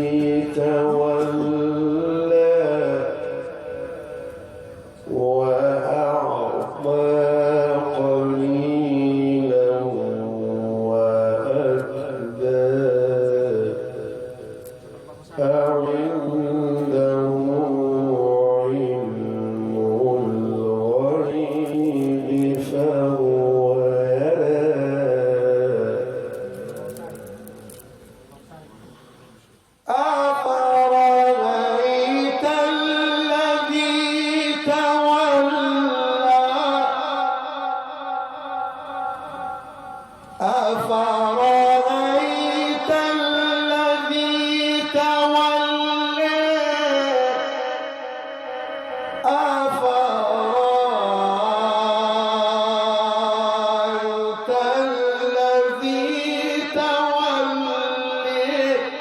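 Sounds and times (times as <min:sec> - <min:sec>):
man chanting melodic recitation: 0:00.0 - 0:59.0.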